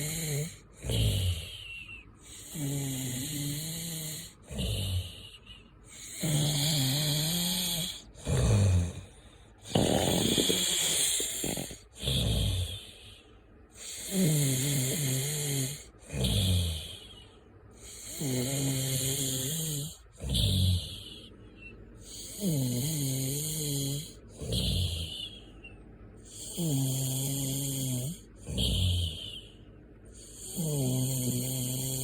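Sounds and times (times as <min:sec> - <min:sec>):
person snoring: 0:00.0 - 0:17.2, 0:17.8 - 0:21.3, 0:22.0 - 0:25.4, 0:26.3 - 0:29.5, 0:30.2 - 0:32.0.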